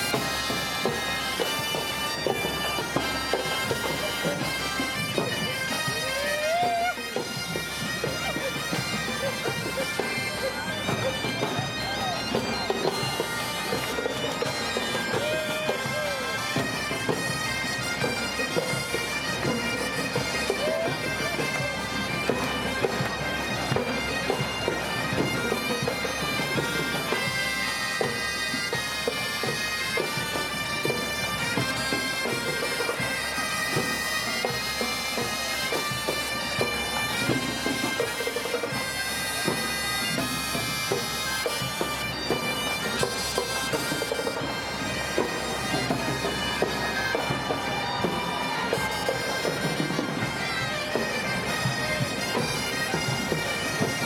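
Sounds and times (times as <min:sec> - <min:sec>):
bagpipes playing melody over drone: 0:00.0 - 0:54.0
drums beating: 0:00.0 - 0:54.0.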